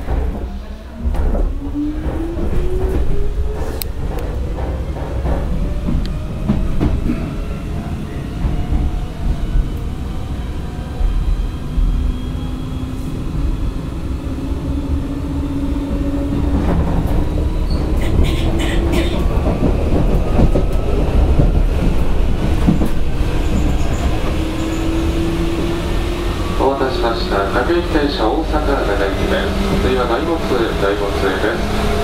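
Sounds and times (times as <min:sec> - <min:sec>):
rumble of train wheels: 0:00.0 - 0:32.0.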